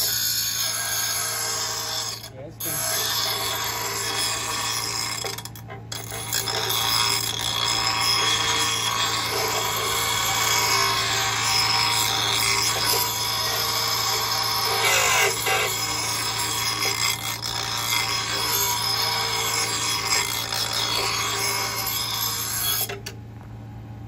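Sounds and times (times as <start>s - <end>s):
bench grinder motor hum: 0.0s - 23.2s
metal grinding: 0.0s - 23.2s.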